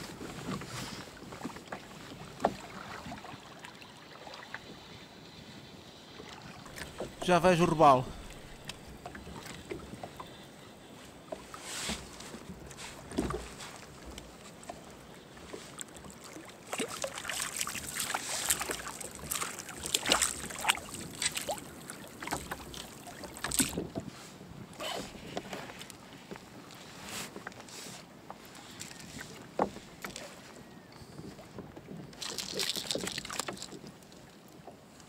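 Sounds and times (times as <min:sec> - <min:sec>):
water splashing against a kayak: 0:00.0 - 0:05.0, 0:05.9 - 0:35.0.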